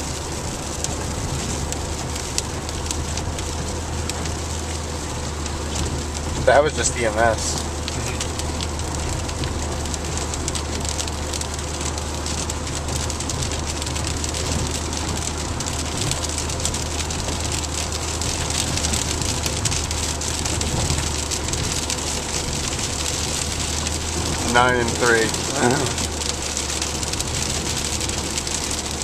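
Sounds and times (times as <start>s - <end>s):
heavy rain on car roof: 0.0s - 29.0s
low drone of car: 0.0s - 29.0s.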